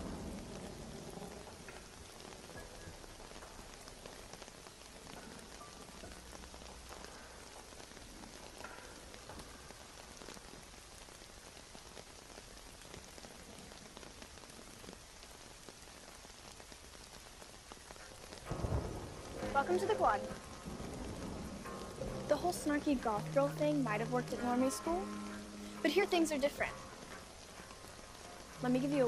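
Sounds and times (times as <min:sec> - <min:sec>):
raindrops ticking on a surface: 0:00.0 - 0:29.0
steady rain falling: 0:00.0 - 0:29.0.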